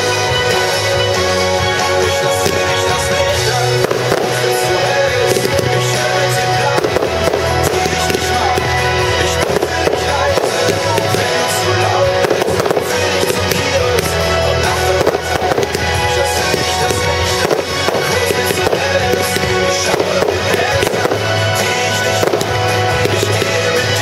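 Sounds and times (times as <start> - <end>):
firework shells bursting and crackling: 0.0 - 24.0
loud music: 0.0 - 24.0.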